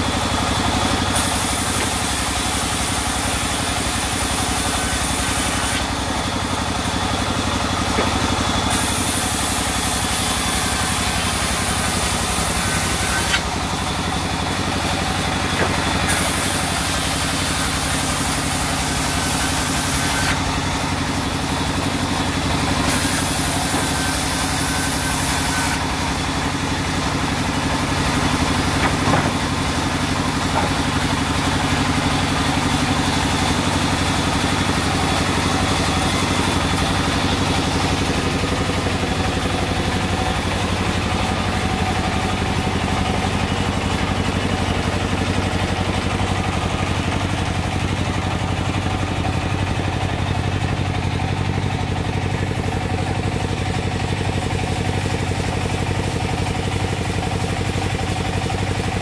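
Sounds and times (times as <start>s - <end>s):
sawmill engine idling: 0.0s - 59.0s.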